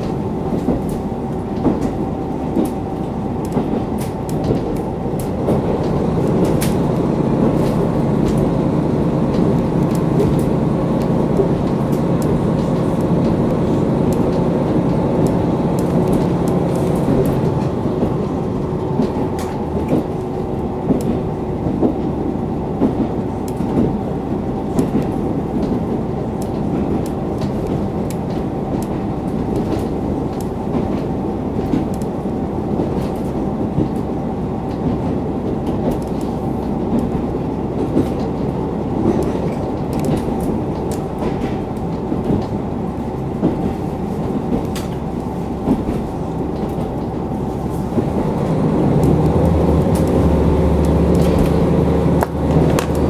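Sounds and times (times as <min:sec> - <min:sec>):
diesel engine drone: 0:00.0 - 0:53.0
train rumble: 0:00.0 - 0:53.0
train wheels clicking over rail joints: 0:00.0 - 0:53.0.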